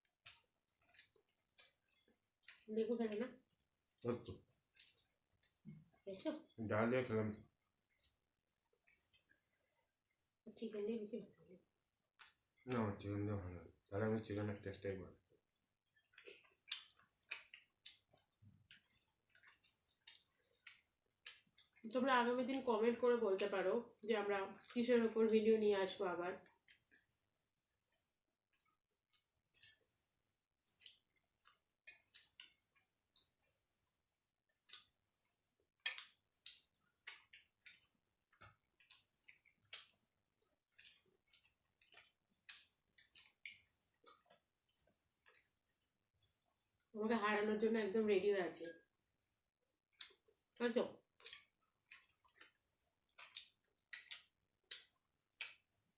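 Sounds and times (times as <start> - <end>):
person chewing food: 0.0 - 6.6, 7.4 - 10.4, 11.3 - 13.9, 15.2 - 21.9, 26.4 - 47.0, 49.0 - 55.9.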